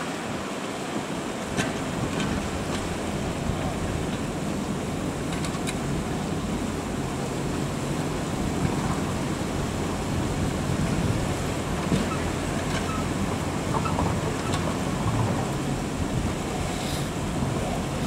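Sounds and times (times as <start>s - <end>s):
continuous rushing noise: 0.0s - 18.0s.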